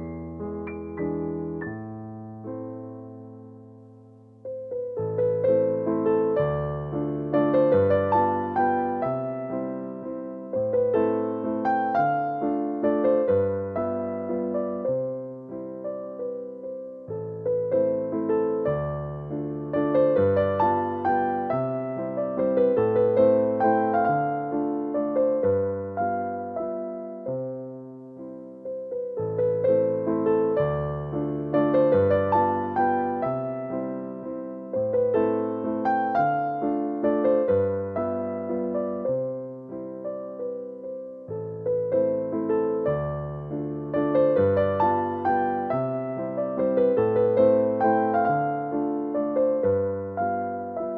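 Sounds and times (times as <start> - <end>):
gentle piano music: 0.0 - 50.9.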